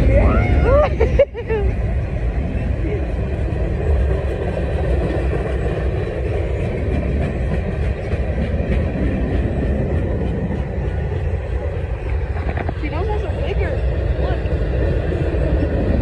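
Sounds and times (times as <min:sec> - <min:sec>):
train wheels running on rails: 0:00.0 - 0:16.0.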